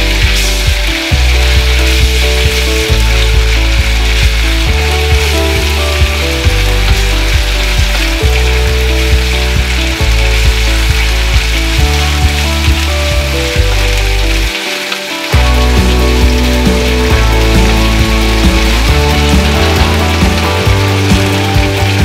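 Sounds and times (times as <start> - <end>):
background music with beat: 0.0 - 22.0
garlic sizzling in hot oil: 0.0 - 22.0.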